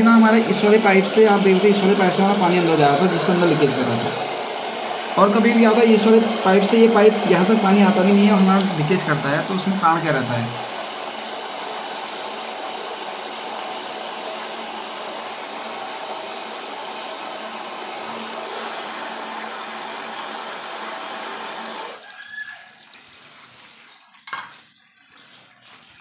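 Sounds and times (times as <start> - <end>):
water gushing into toilet cistern: 0.0 - 26.0.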